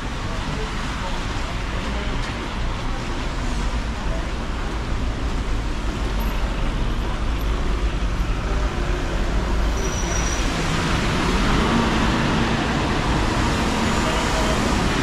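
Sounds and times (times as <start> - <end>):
bus engine passing: 1.4 - 15.0.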